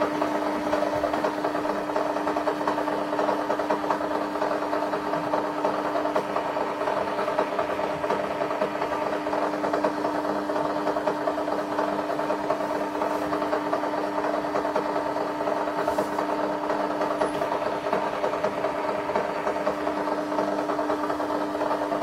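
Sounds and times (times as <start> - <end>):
receipt printer chattering: 0.0 - 22.0.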